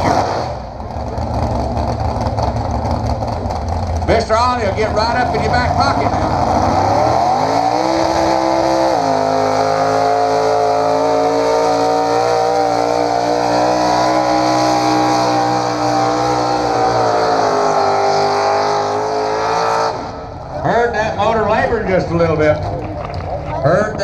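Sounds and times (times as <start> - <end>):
vehicle engine at high revs: 0.0 - 20.8.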